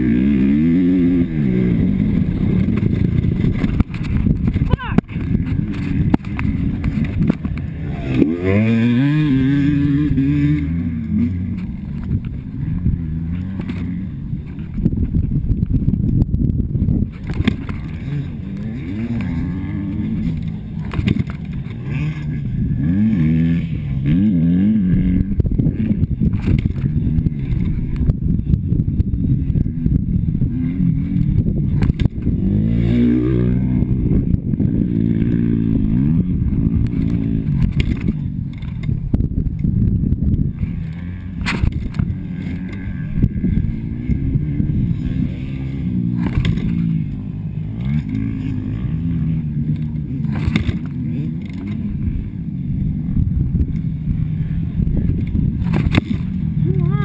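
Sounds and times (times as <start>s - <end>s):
dirt bike engine revving: 0.0s - 57.0s
wind buffeting microphone: 0.6s - 19.1s, 24.8s - 47.8s, 51.9s - 57.0s.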